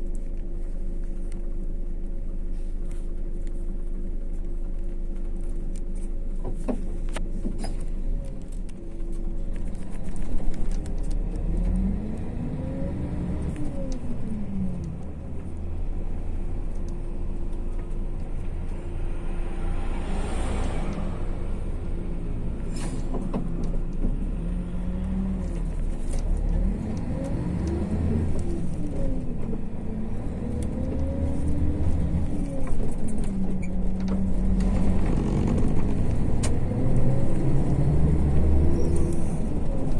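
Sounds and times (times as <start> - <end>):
bus engine and road rumble: 0.0 - 39.9
engine whine: 0.0 - 39.9.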